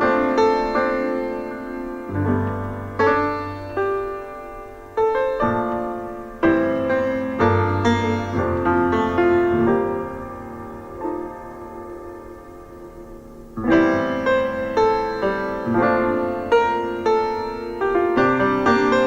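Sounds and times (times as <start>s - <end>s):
jazz blues piano music: 0.0s - 19.0s.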